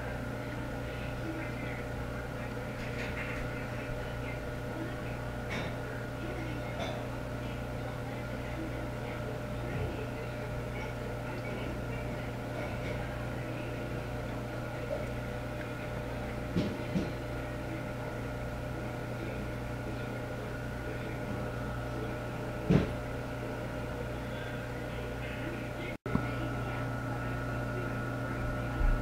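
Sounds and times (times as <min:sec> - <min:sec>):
mechanical hum with tones: 0:00.0 - 0:29.0.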